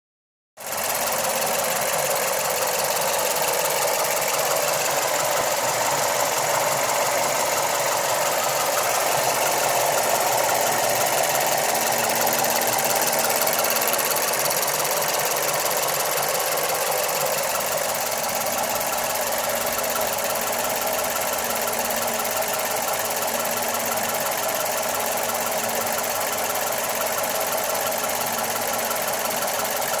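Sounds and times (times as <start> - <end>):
car engine running: 0.6 - 30.0.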